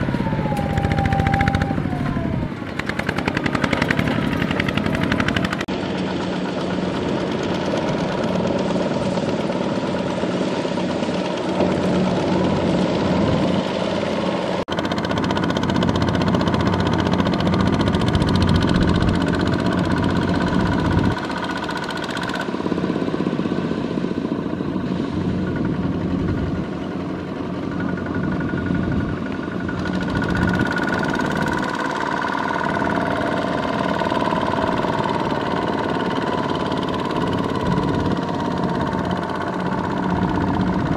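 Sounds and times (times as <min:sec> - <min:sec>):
diesel tractor engine running: 0:00.0 - 0:40.9.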